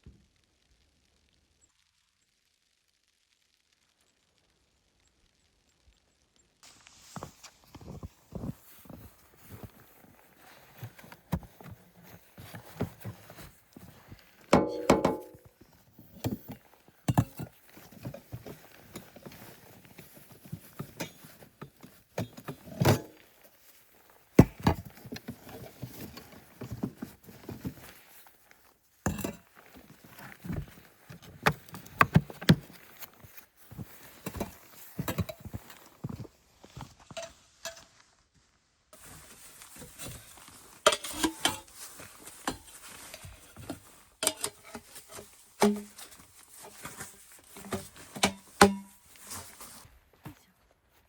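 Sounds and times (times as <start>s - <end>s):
footsteps crunching through snow: 6.6s - 51.0s.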